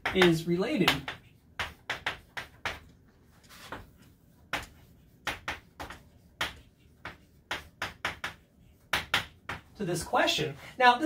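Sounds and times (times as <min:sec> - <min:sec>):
chalk clicking on blackboard: 0:00.0 - 0:09.7.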